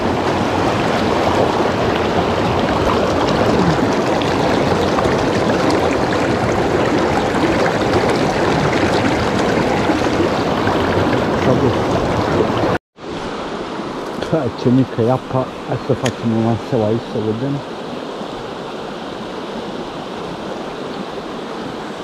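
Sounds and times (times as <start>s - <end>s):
river rushing over stones: 0.0s - 22.0s.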